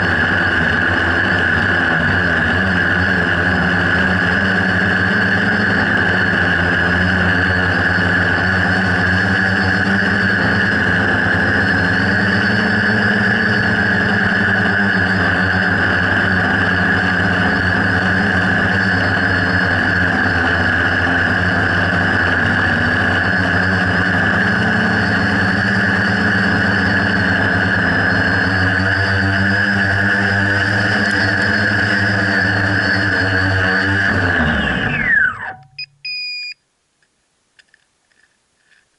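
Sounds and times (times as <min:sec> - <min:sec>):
drone propellers whirring: 0:00.0 - 0:36.5.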